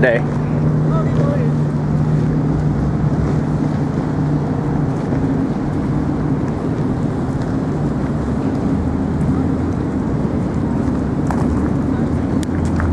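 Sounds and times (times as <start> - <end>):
low engine drone: 0.0 - 12.9
wind noise on microphone: 0.0 - 12.9.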